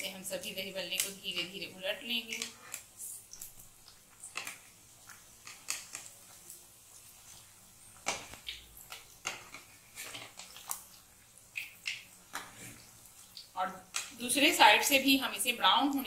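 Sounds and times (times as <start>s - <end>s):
faint deep-frying sizzle: 0.0s - 16.0s.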